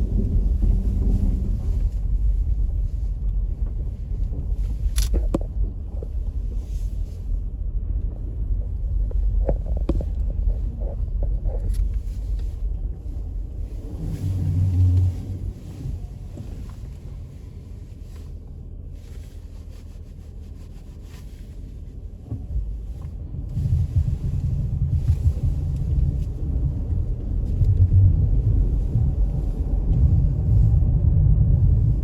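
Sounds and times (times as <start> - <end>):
wind buffeting microphone: 0.0 - 17.4, 22.4 - 32.0.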